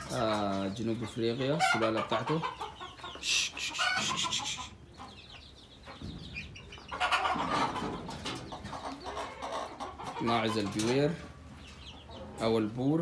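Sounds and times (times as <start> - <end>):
chickens clucking and cheeping: 0.0 - 13.0.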